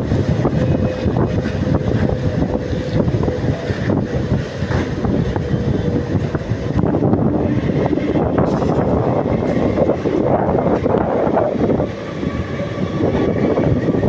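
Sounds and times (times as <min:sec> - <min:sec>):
metro train rumble: 0:00.0 - 0:14.0.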